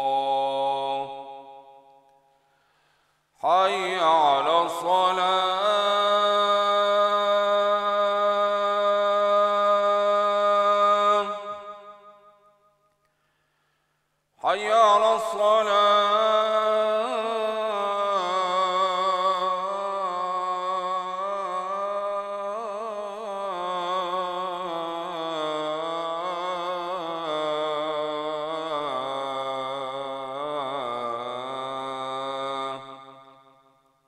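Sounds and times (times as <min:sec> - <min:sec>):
man chanting call to prayer: 0:00.0 - 0:01.9, 0:03.4 - 0:12.2, 0:14.4 - 0:33.3.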